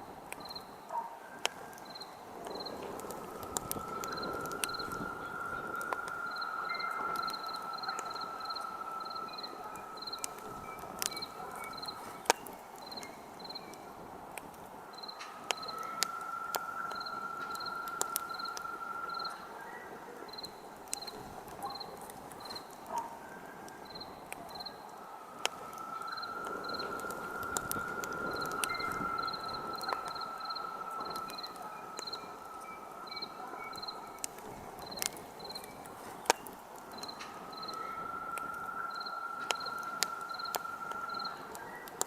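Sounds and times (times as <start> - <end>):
campfire crackling and popping: 0.0 - 42.0
crickets chirping: 0.0 - 42.0
low insect trill: 1.8 - 14.0, 14.9 - 42.0.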